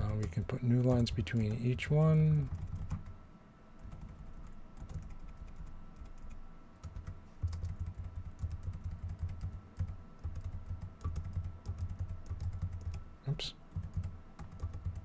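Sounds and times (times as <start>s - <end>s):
keyboard typing: 0.0s - 3.1s, 3.8s - 13.0s, 13.7s - 15.0s.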